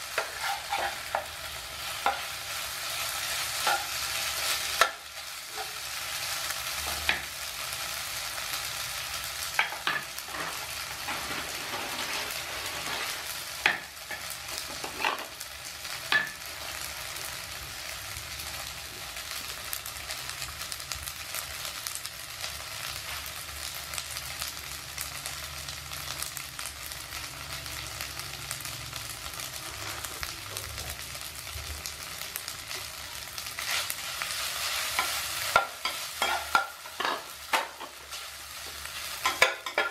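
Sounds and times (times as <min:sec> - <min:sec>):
noodles sizzling in a frying pan: 0:00.0 - 0:39.9.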